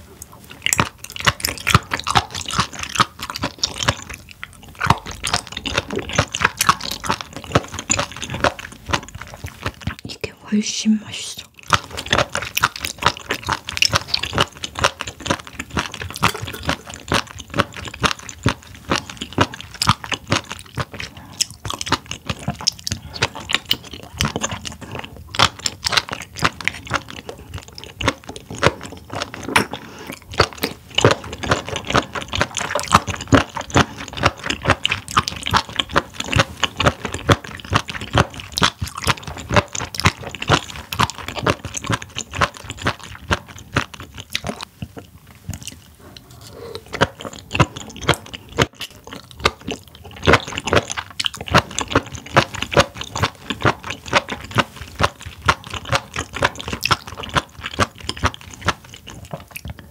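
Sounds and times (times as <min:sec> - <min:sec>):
crunchy chewing: 0:00.0 - 0:10.1, 0:11.4 - 0:59.9.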